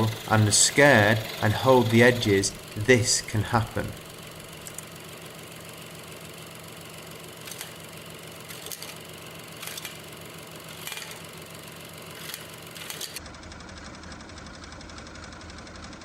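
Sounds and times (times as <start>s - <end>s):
scroll saw running: 0.0s - 16.0s.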